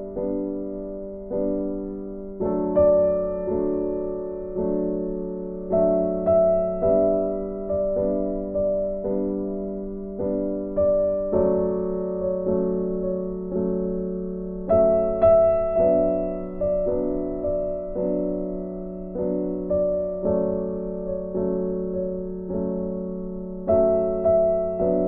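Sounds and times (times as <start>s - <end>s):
soft piano music: 0.0s - 25.0s.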